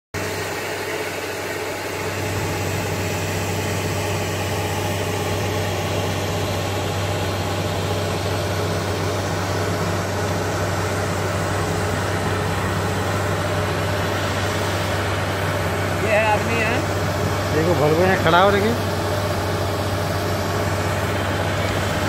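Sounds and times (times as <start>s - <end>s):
heavy diesel machinery drone: 0.2s - 22.0s.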